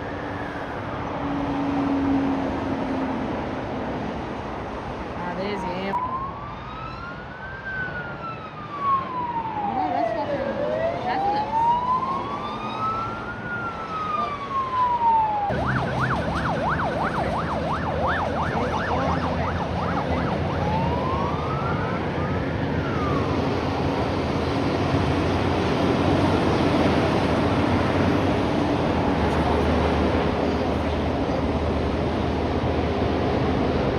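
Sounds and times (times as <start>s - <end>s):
emergency vehicle siren: 0.0s - 5.1s, 5.9s - 33.9s
passing traffic rumble: 0.0s - 33.9s.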